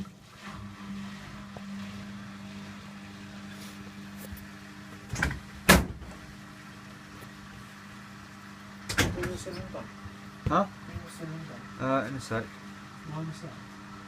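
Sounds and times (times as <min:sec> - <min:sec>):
drain pump humming: 0:00.0 - 0:14.0.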